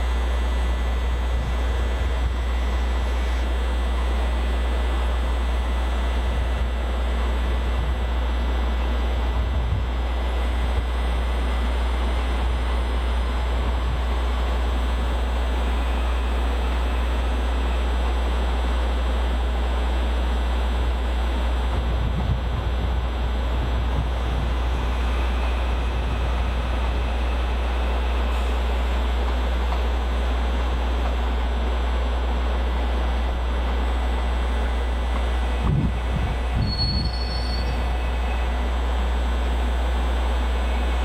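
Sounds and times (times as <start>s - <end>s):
low railway rumble: 0.0s - 41.0s.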